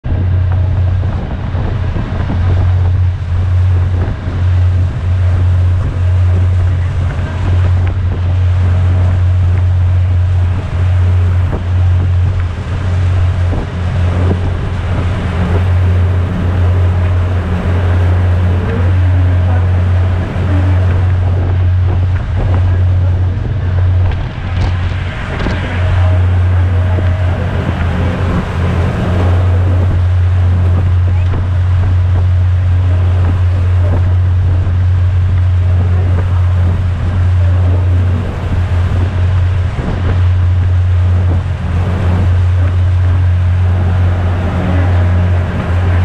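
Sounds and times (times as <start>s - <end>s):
low engine drone: 0.0s - 46.0s
wake rushing along hull: 0.0s - 46.0s
wind rumbling on microphone: 0.0s - 46.0s.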